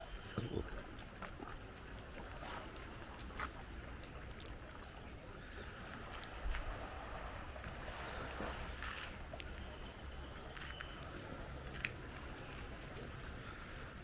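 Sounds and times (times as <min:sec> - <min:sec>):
sea water washing on beach: 0:00.0 - 0:14.0.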